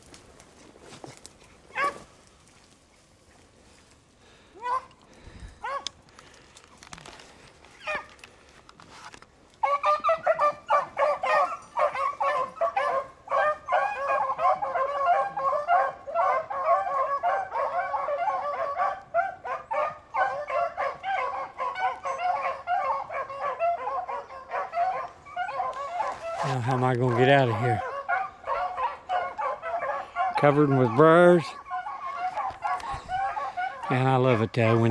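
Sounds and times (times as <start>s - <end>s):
hounds baying: 0.9s - 2.1s, 4.3s - 6.0s, 7.8s - 8.3s, 9.5s - 34.9s.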